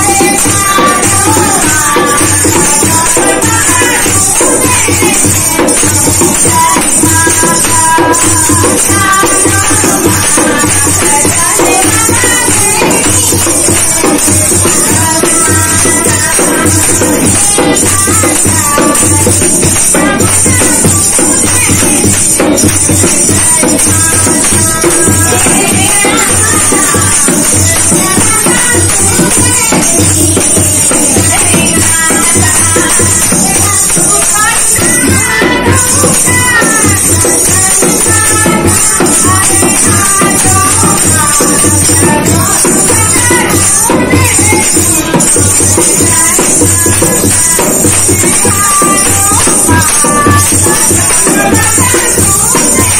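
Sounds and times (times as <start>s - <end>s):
hand drum beat: 0.0s - 52.9s
metallic percussion jingle: 0.0s - 52.9s
women singing devotional song: 0.0s - 52.9s.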